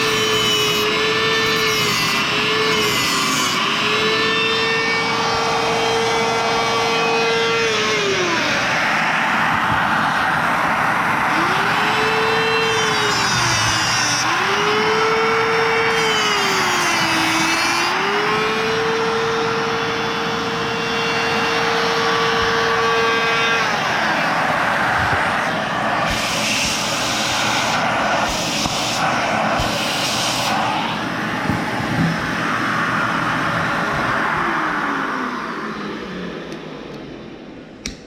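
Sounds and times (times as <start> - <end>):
rotary tool whining: 0.0 - 32.4.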